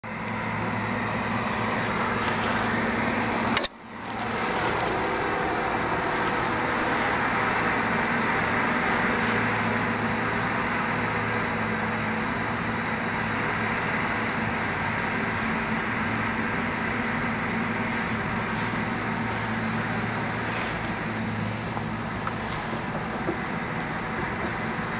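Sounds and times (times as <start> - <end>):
bulldozer diesel engine running: 0.0 - 24.9.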